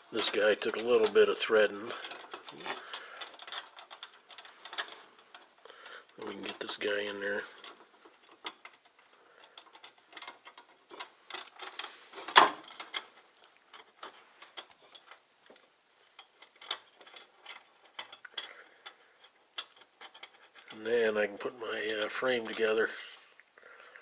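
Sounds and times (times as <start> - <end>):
metal clicks and scrapes: 0.0 - 23.4.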